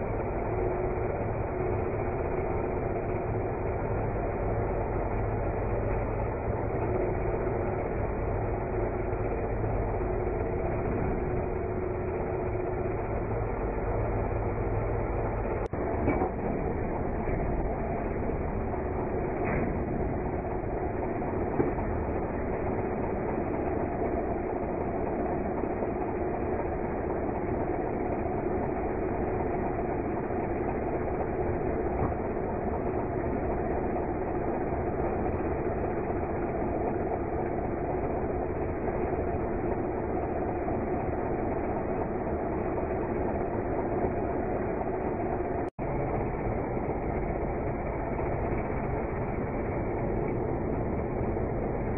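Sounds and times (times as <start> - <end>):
backhoe engine running under load: 0.0 - 51.9.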